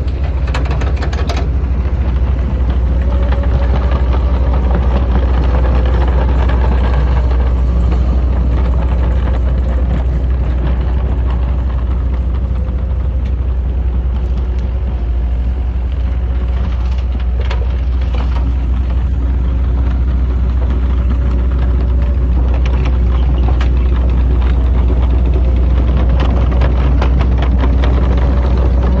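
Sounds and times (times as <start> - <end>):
heavy diesel engine humming: 0.0 - 29.0.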